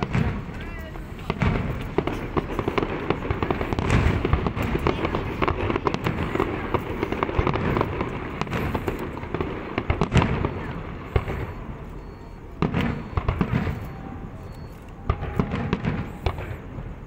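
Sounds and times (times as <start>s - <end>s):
deep fireworks booms: 0.0s - 17.0s
fireworks popping and crackling: 0.0s - 17.0s.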